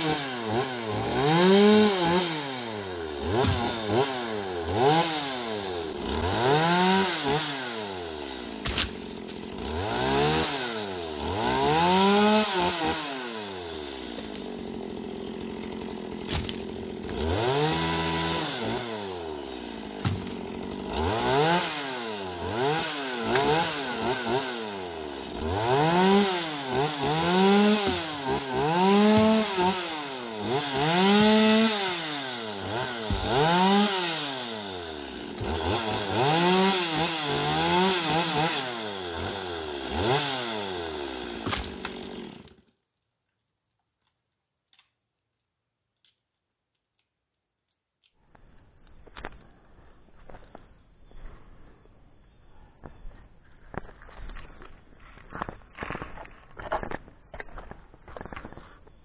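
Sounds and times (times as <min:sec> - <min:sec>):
chainsaw cutting: 0:00.0 - 0:42.8, 0:53.1 - 0:59.0.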